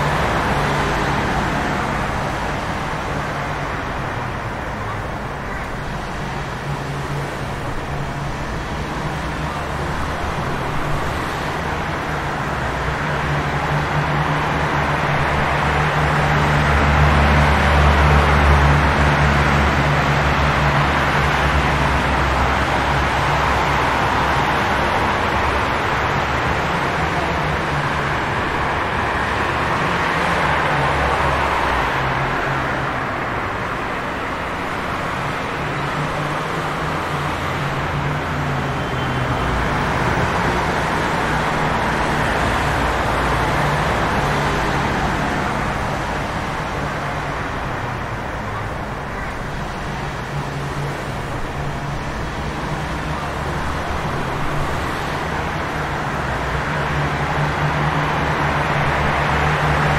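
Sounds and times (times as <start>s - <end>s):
tyres hissing on wet road: 0.0s - 59.9s.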